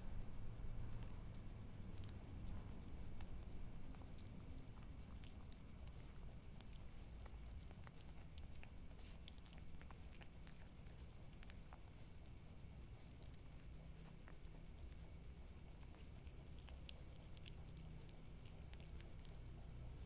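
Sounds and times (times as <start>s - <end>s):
insect chirring: 0.0s - 20.0s
kitten chewing food: 0.0s - 20.0s.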